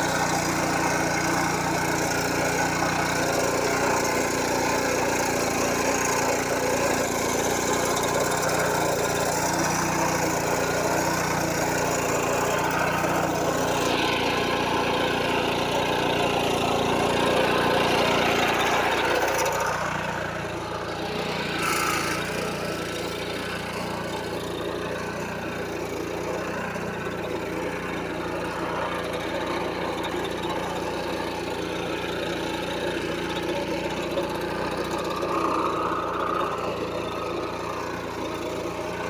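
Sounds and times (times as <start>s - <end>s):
small petrol engine running: 0.0s - 39.0s.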